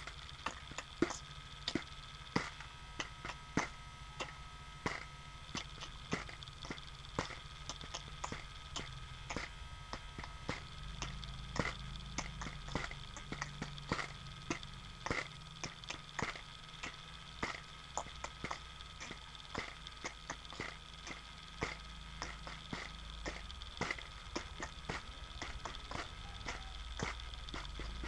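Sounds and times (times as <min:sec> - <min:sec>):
beatboxing clicks and pops: 0:00.0 - 0:28.0
low steady hum: 0:00.0 - 0:28.0.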